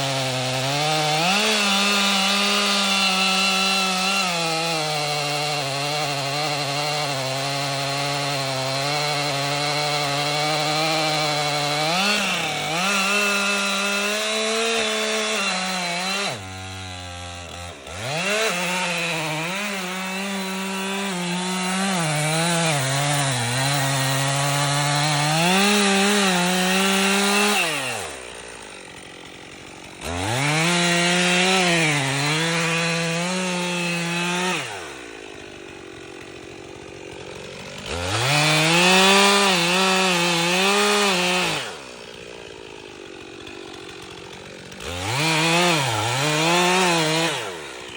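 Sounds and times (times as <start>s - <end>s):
chainsaw cutting into tree trunk: 0.0s - 47.9s.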